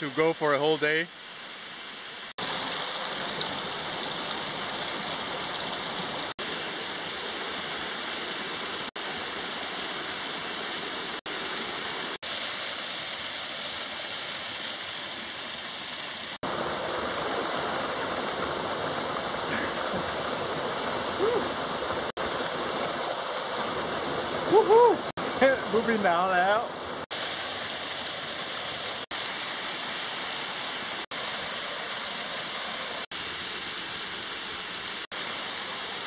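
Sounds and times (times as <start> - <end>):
waterfall rushing over rocks: 0.2 - 36.0.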